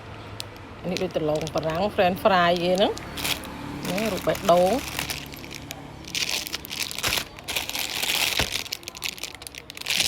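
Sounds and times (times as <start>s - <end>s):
fidget toys crinkling: 0.4s - 10.0s.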